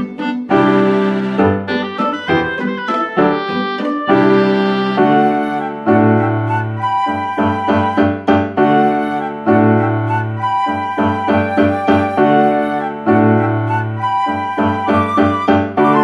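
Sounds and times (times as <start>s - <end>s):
piano background music: 0.0s - 16.0s.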